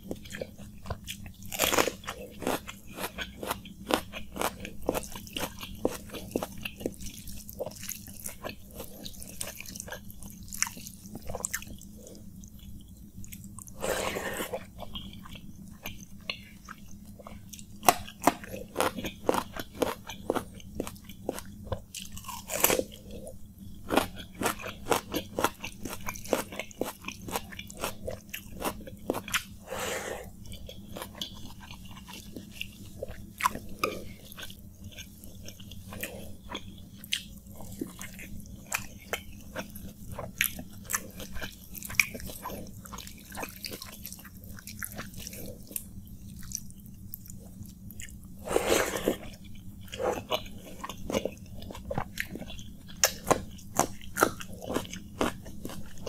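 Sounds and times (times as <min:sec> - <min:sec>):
wet chewing and smacking: 0:00.0 - 0:29.6, 0:30.2 - 0:56.0.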